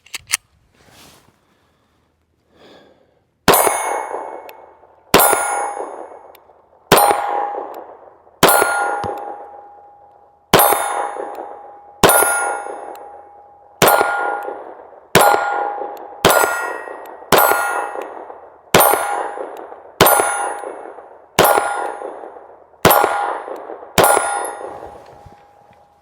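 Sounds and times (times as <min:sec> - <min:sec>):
steel target ringing from gunshots: 0:03.5 - 0:06.3, 0:06.9 - 0:26.0.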